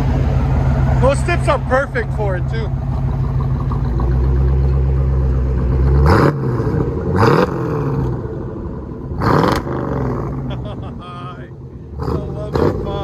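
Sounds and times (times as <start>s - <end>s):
car engine idling: 0.0s - 13.0s
engine revving: 0.0s - 13.0s.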